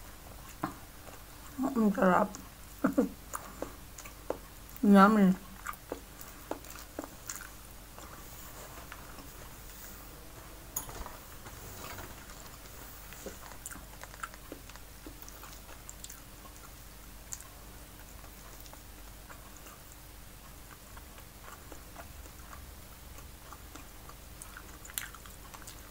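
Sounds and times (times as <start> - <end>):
person chewing food: 0.2 - 1.6, 2.3 - 4.8, 5.4 - 10.1, 10.8 - 25.9.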